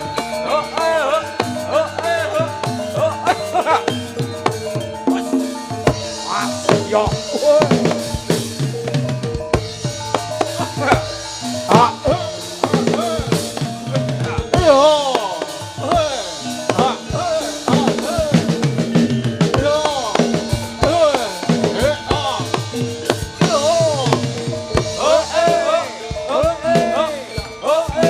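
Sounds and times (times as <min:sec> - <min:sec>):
gamelan-style music: 0:00.0 - 0:28.0
loud busy drumming: 0:00.0 - 0:28.0.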